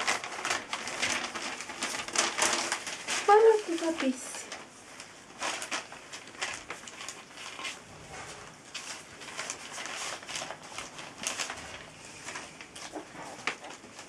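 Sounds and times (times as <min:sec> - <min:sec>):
puppies crunching kibble: 0:00.0 - 0:07.9, 0:08.5 - 0:14.0
paws rustling newspaper: 0:00.0 - 0:14.0.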